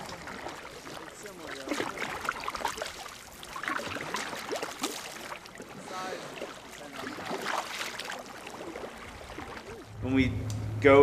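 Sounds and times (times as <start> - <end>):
paddle splashes: 0.0 - 10.6
water lapping against hull: 0.0 - 11.0.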